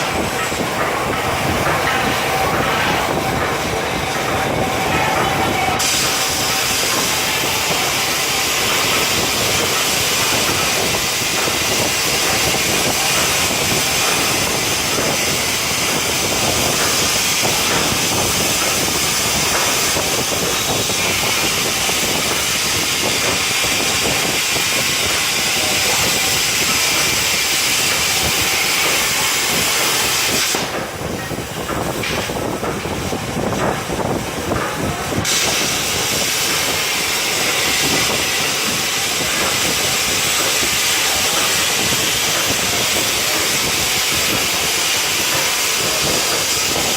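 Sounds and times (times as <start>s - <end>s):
plasma torch cutting metal: 0.0s - 46.9s.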